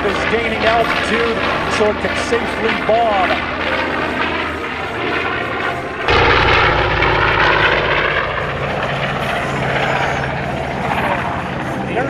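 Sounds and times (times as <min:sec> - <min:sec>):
radial engines droning in flight: 0:00.0 - 0:12.0.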